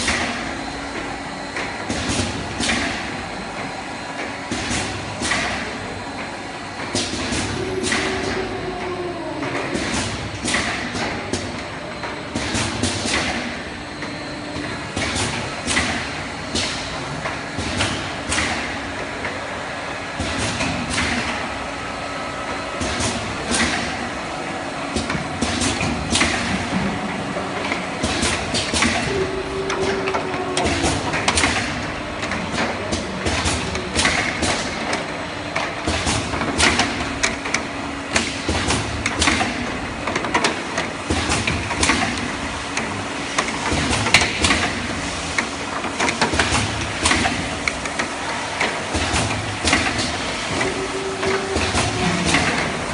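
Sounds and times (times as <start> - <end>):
machine hum: 0.0 - 52.9.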